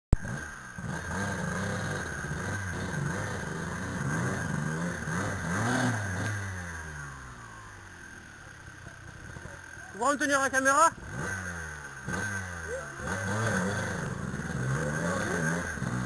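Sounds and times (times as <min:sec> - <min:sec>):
dirt bike engine revving: 0:00.2 - 0:16.0.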